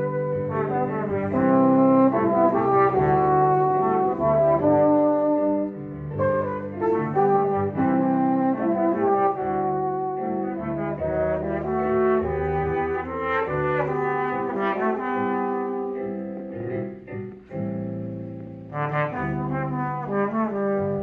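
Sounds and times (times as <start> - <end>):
brass holding long notes: 0.0 - 16.2, 18.7 - 21.0
piano: 0.0 - 21.0.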